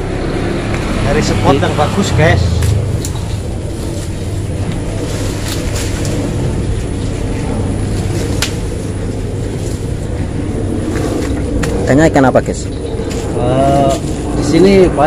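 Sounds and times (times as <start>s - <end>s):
steady low rumble: 0.0s - 15.0s
leaves and branches rustling: 0.8s - 15.0s
twigs crackling: 2.0s - 14.6s.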